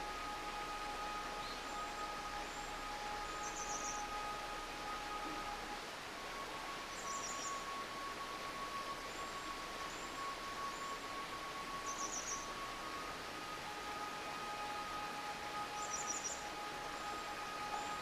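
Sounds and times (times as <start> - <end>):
small birds trilling and whistling: 0.0 - 5.8, 6.7 - 18.0
faint steady high tone: 0.0 - 18.0
stream babbling: 0.0 - 18.0.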